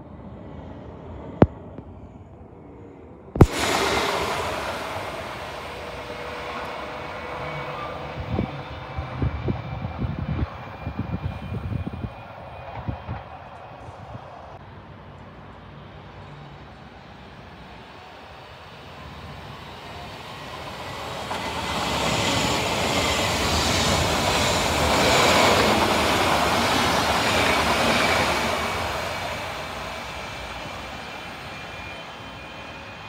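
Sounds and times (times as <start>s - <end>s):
faint high whine: 1.5s - 33.0s
train wheels rumbling on rails: 3.4s - 33.0s.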